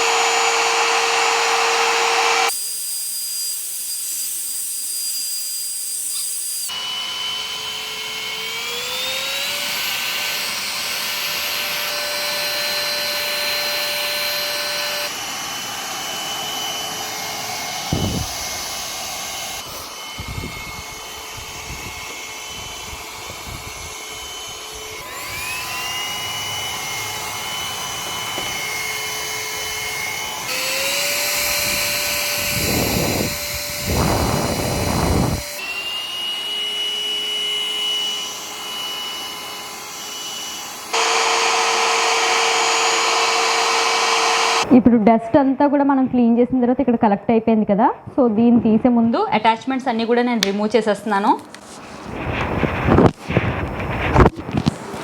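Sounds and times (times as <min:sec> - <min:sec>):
stick vacuum cleaner motor whine: 0:00.0 - 0:44.8, 0:51.2 - 0:55.0.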